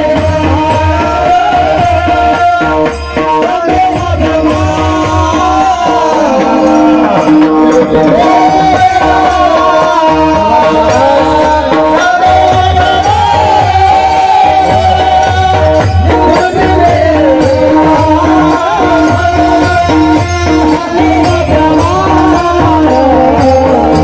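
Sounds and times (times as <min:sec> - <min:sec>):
drum beats: 0:00.0 - 0:24.0
held accompaniment tones: 0:00.0 - 0:24.0
jingling hand percussion: 0:00.0 - 0:24.0
person singing devotional song: 0:00.0 - 0:24.0.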